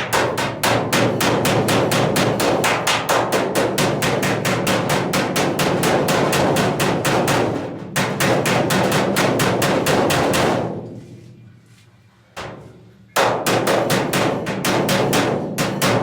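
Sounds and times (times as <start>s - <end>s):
hammer striking metal panel: 0.0s - 11.0s, 12.4s - 16.0s.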